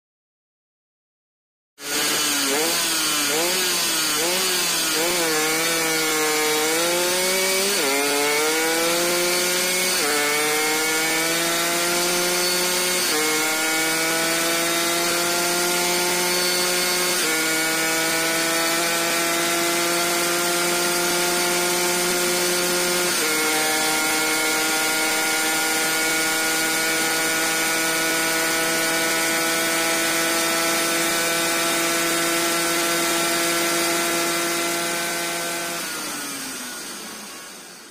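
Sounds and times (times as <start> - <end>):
two-stroke engine at full throttle: 1.8 - 37.9.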